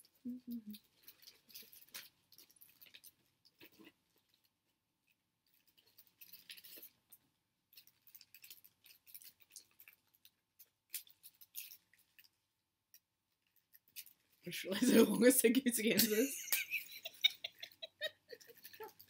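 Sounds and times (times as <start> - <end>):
wrapper crinkling and clicking: 0.7 - 4.6, 5.4 - 14.5, 16.6 - 19.0.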